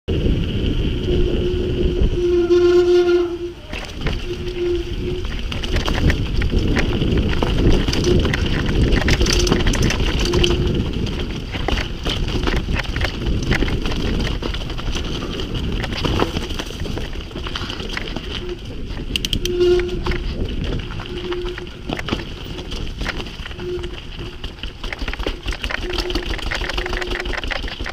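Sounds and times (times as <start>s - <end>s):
bike rattling and knocking: 0.1s - 27.9s
rumble of bike tyres: 0.1s - 27.9s
wind on microphone: 0.1s - 27.9s.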